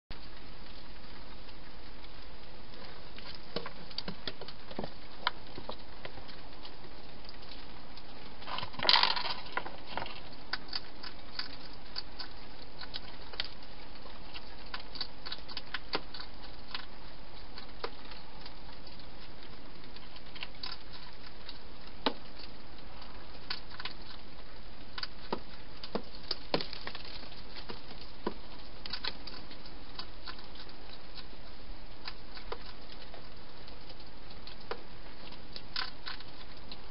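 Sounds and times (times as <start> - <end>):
hedgehog munching and clicking: 0.2 - 36.9.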